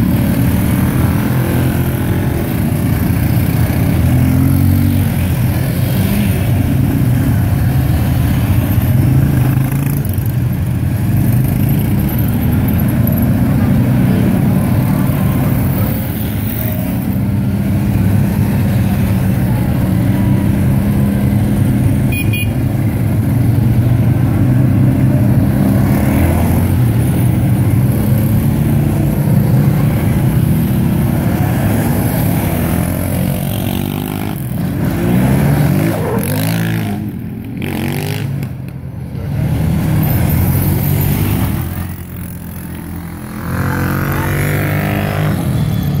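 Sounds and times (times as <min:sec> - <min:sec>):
quad engines humming: 0:00.0 - 0:46.0.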